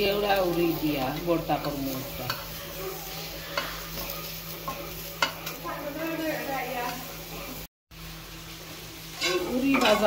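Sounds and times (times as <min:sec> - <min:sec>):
beans sizzling in oil: 0:00.0 - 0:10.0.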